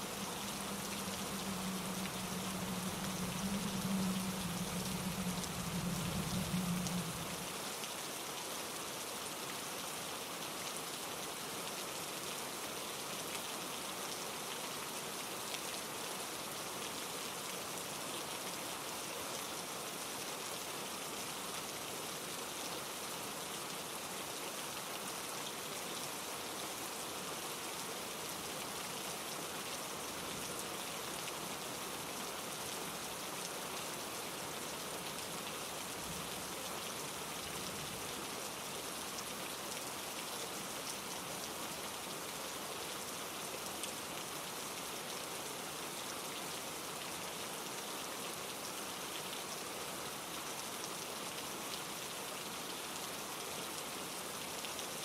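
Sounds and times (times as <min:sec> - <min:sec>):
rain falling on trees: 0:00.0 - 0:55.0.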